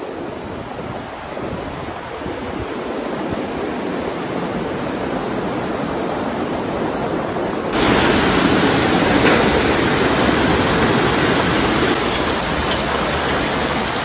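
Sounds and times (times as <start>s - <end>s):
floodwater rushing down a street: 0.0s - 14.0s.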